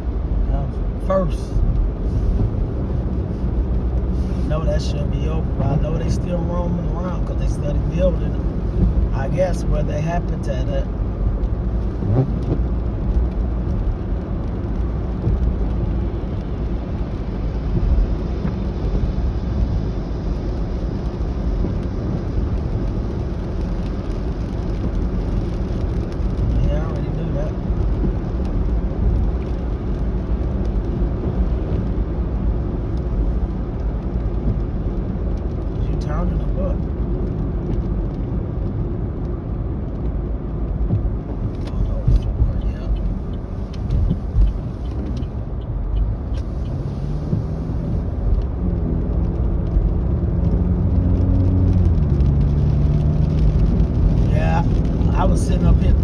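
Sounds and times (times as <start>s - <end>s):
car cabin road rumble: 0.0s - 56.0s
engine hum: 0.0s - 56.0s.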